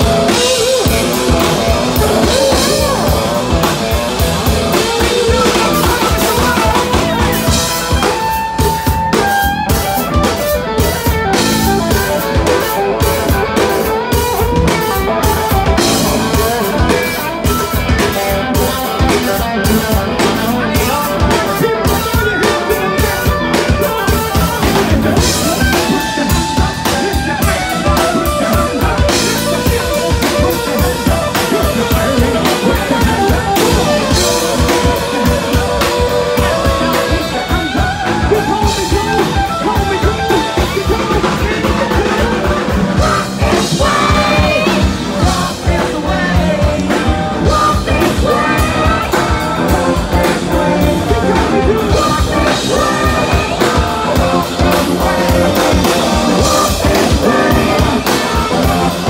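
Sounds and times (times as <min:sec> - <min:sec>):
bass guitar: 0:00.0 - 0:59.0
drum kit steady beat: 0:00.0 - 0:59.0
electric guitar: 0:00.0 - 0:59.0.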